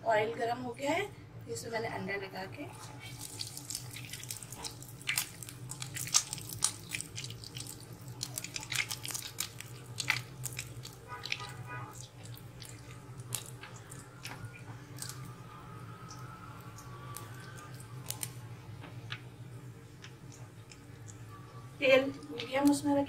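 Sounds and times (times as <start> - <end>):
low steady hum: 0.0 - 23.0
oil sizzling and popping: 2.8 - 23.0.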